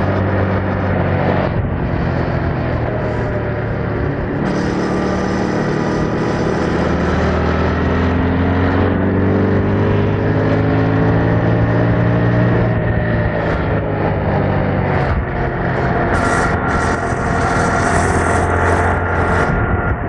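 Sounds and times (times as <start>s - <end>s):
motorcycle engine revving under load: 0.0s - 20.0s.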